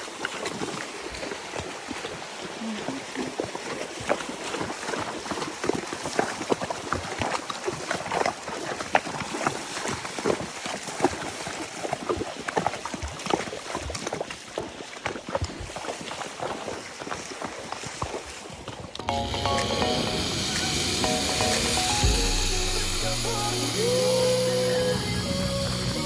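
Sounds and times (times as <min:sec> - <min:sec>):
horse hooves clopping: 0:00.0 - 0:22.9.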